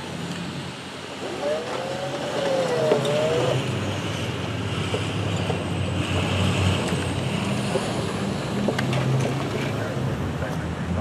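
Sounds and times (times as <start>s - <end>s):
rumble of passing vehicles: 0.0s - 11.0s.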